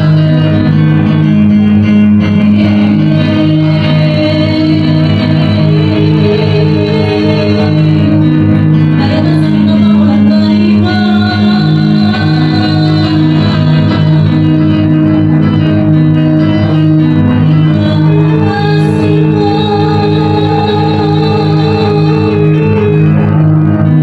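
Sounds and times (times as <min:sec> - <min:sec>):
bass line: 0:00.0 - 0:24.0
organ-like keyboard chords: 0:00.0 - 0:24.0.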